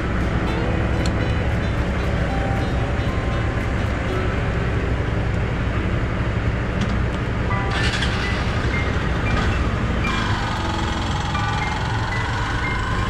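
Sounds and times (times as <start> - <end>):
motorcycle engine and tyre noise: 0.0 - 13.0.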